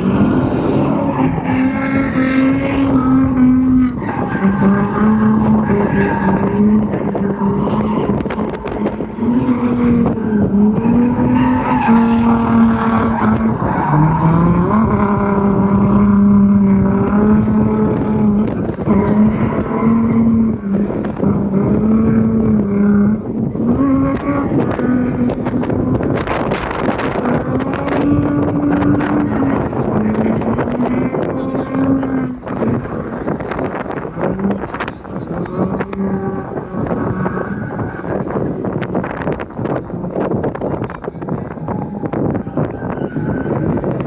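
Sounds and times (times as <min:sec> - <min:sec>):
car engine revving hard: 0:00.0 - 0:44.0
tyres skidding and squealing: 0:00.0 - 0:44.0.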